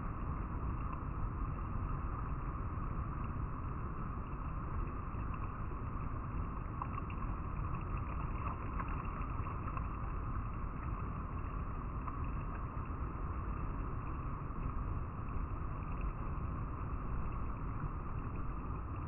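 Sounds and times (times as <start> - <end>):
river water flowing over rocks: 0.6 - 19.0.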